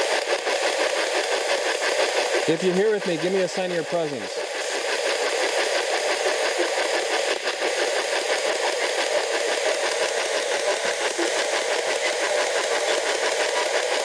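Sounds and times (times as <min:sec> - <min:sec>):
choppy radio static hiss: 0:00.0 - 0:14.0.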